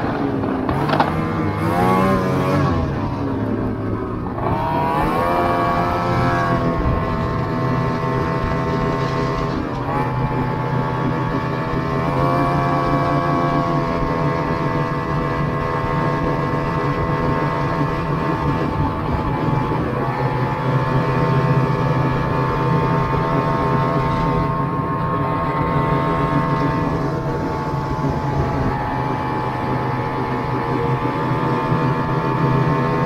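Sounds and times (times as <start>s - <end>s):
snowmobile engine running: 0.0s - 33.0s.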